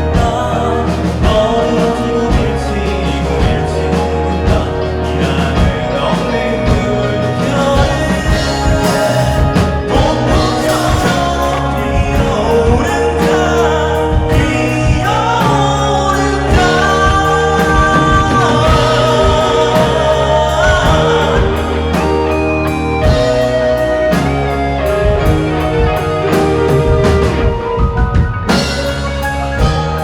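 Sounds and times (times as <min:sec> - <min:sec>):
live band music: 0:00.0 - 0:30.0
singer holding long notes: 0:00.0 - 0:30.0.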